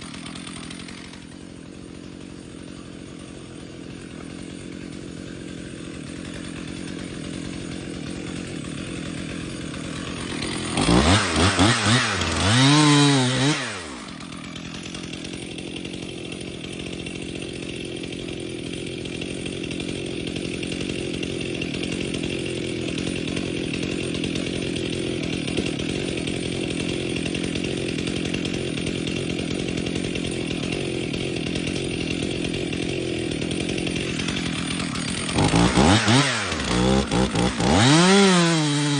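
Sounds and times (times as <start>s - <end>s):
chainsaw running and revving: 0.0s - 38.9s.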